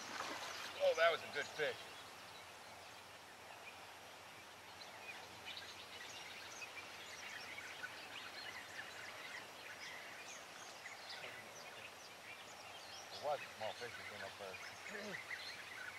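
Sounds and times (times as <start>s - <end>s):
faint steady background hiss: 0.0s - 15.9s
small birds chirping and singing: 0.3s - 15.9s.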